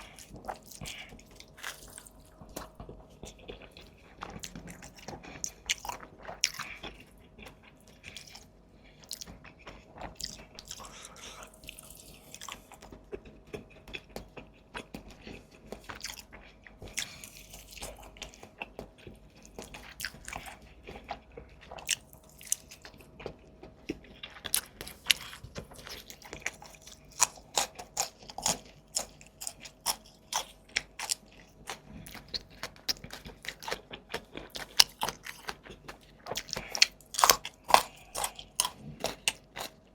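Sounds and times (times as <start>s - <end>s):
faint steady hum: 0.0s - 39.9s
person chewing crunchy food: 0.0s - 39.9s.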